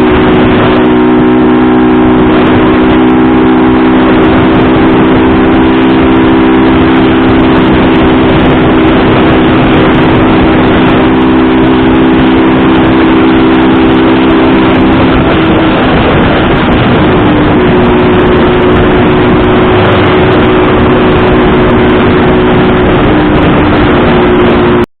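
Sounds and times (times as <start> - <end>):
motorcycle engine running: 0.0 - 24.9
wind and road noise: 0.0 - 24.9.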